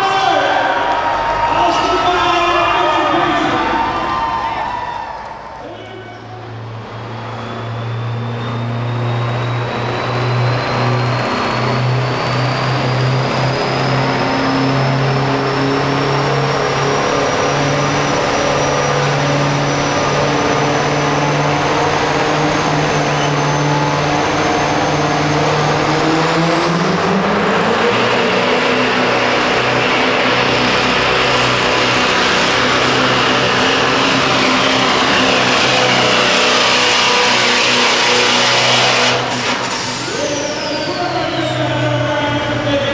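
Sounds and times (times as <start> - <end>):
diesel truck engine under load: 0.0 - 42.9.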